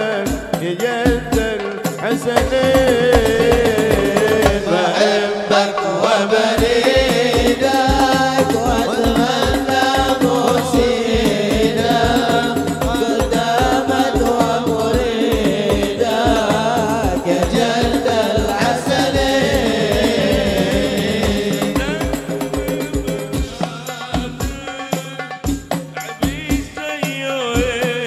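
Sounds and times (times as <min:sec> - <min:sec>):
hand drums beating: 0:00.0 - 0:28.0
man singing into a microphone: 0:00.0 - 0:28.0.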